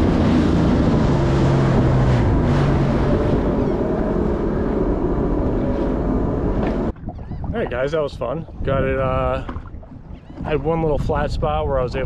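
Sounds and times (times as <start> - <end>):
rushing spray and hull slap: 0.0 - 12.0
watercraft engine drone: 0.0 - 12.0
wind buffeting microphone: 0.0 - 12.0.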